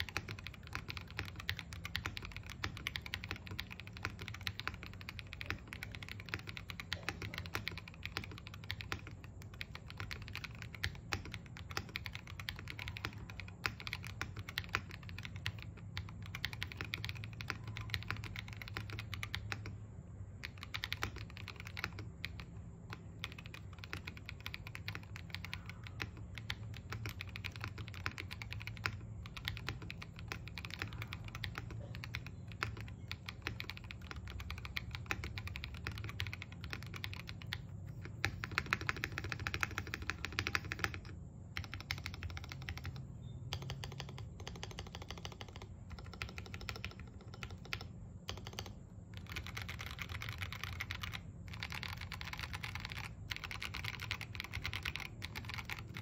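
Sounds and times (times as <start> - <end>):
mechanical keyboard key clacks: 0.0 - 19.7, 20.4 - 56.0.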